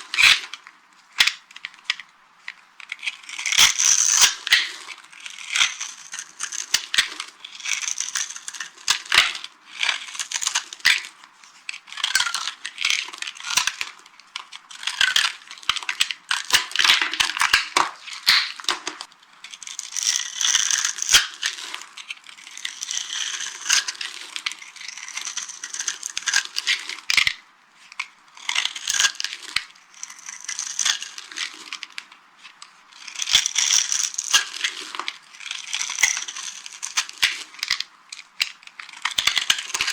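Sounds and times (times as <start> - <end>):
dry soap crunching: 1.5 - 11.0, 11.7 - 27.0, 27.8 - 32.2, 32.9 - 39.9.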